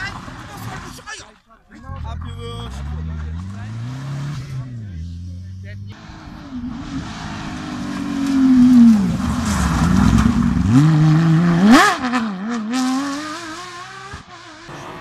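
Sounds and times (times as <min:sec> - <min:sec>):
rally car engine revving: 0:01.7 - 0:15.0.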